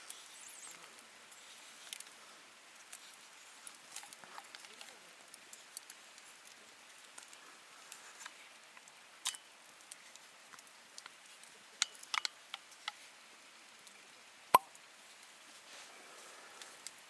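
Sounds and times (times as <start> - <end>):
campfire crackling: 0.0 - 17.0
sharp crack of burning wood: 0.0 - 17.0.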